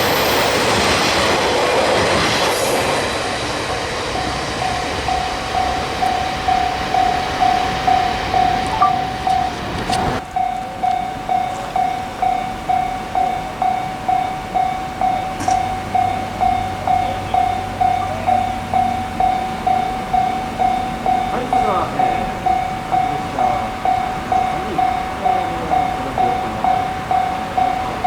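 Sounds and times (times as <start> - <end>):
passing train rushing: 0.0 - 28.0
level crossing bell ringing: 4.1 - 28.0.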